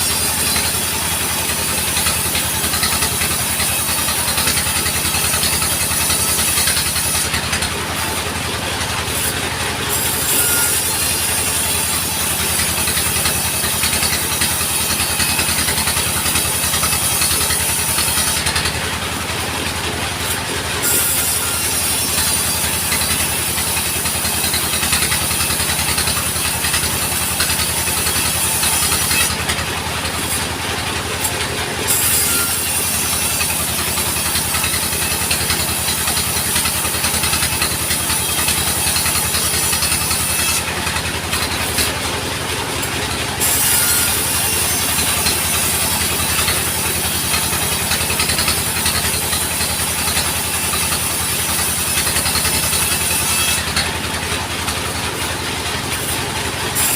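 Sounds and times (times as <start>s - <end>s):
band saw engine throbbing: 0.0s - 56.9s.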